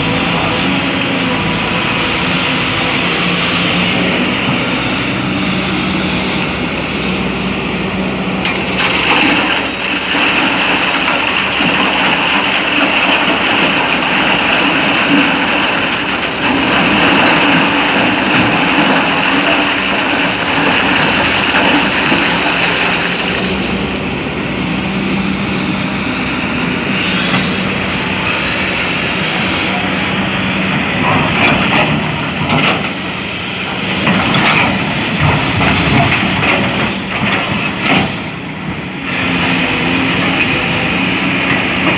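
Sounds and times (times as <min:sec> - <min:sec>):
high whine: 0:00.0 - 0:13.0, 0:13.8 - 0:41.9
excavator engine and hydraulics: 0:00.0 - 0:41.9.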